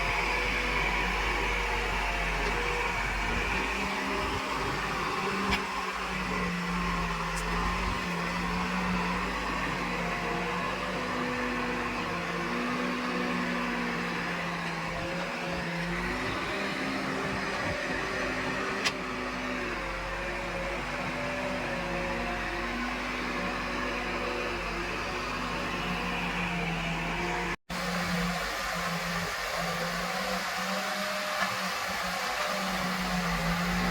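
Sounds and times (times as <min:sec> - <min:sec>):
diesel engine under load: 0:00.0 - 0:33.9.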